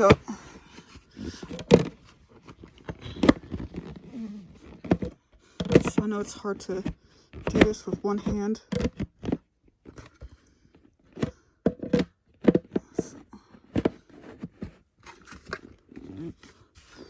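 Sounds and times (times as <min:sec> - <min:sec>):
plastic parts clicking and scraping: 0:00.0 - 0:17.0.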